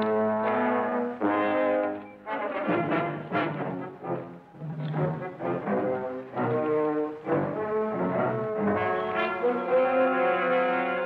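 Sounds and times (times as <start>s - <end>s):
orchestral music: 0.0s - 11.0s.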